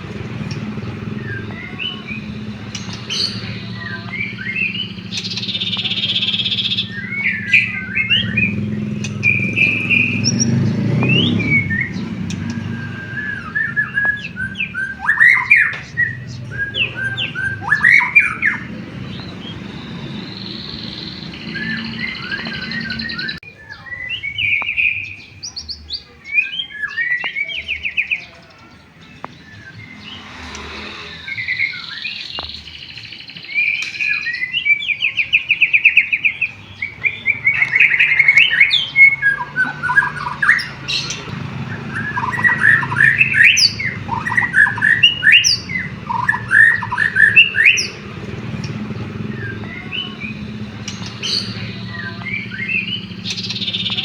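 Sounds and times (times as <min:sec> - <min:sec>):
bird singing whistles and trills: 0:00.0 - 0:54.0.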